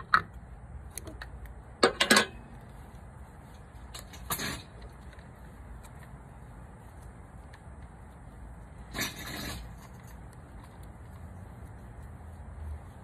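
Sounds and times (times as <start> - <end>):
steady low rumble: 0.0 - 13.0
tape and wire rustles: 0.0 - 13.0.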